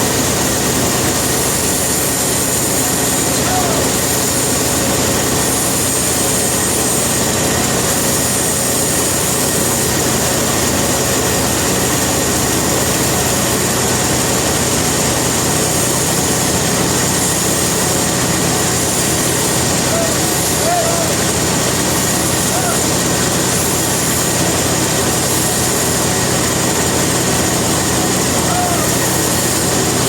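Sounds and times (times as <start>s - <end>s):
sawmill machinery running: 0.0s - 30.0s.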